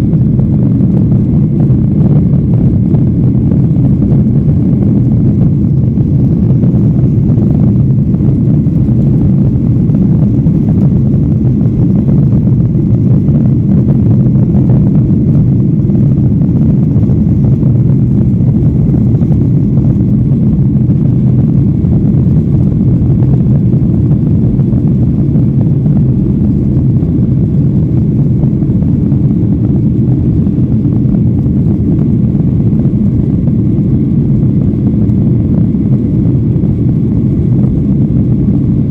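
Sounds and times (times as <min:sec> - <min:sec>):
jet engines in aircraft cabin: 0:00.0 - 0:38.9.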